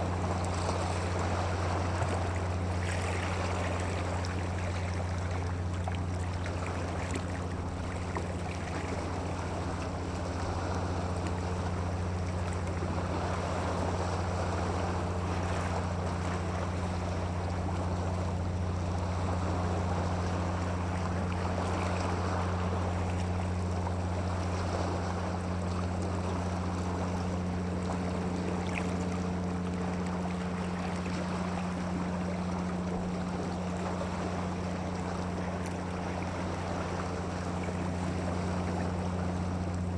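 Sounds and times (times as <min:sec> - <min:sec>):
flowing water: 0:00.0 - 0:39.9
low hum: 0:00.0 - 0:39.9.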